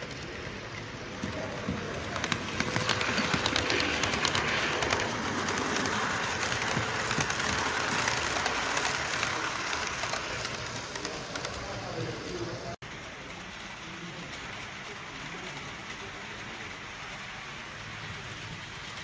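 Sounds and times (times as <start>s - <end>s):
model train running noise: 0.0s - 19.0s
model train wheels clicking on rails: 0.0s - 19.0s.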